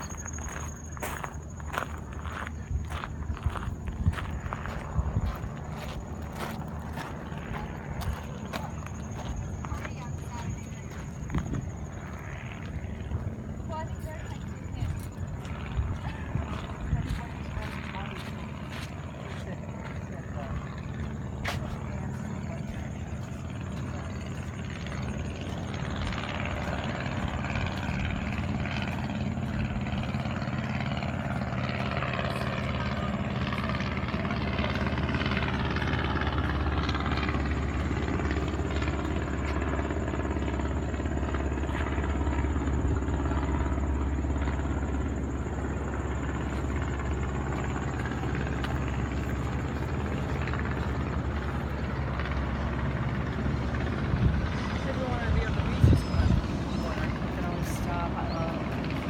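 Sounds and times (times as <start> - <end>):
engine drone: 0.0 - 59.0.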